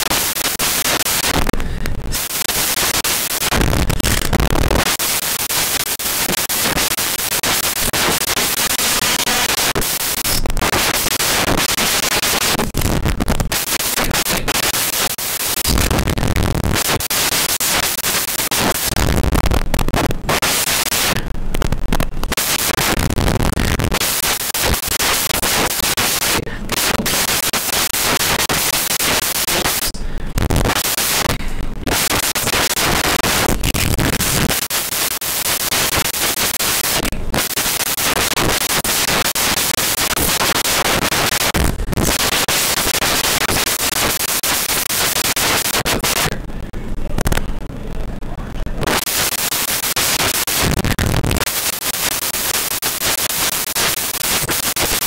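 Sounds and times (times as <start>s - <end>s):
loud static hiss: 0.0s - 55.0s.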